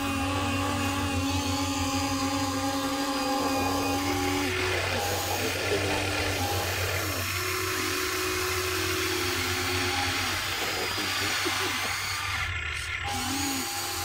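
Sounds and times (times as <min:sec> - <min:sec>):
small electric motors whining: 0:00.0 - 0:14.0
steady low hum: 0:00.0 - 0:14.0.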